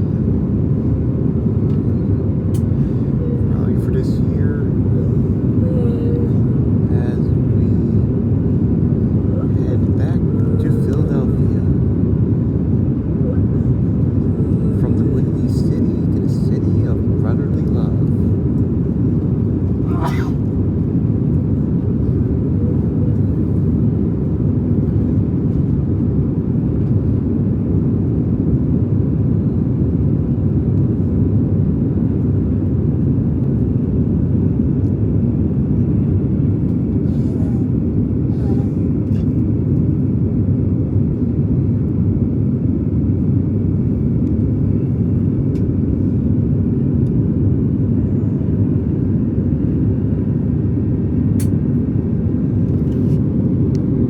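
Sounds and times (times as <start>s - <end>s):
airliner engine and airflow noise: 0.0s - 54.0s.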